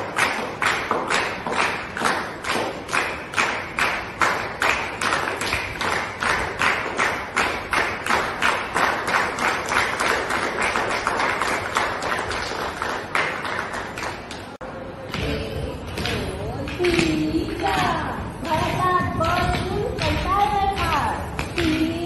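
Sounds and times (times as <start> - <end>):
women clapping in unison: 0.0 - 22.0.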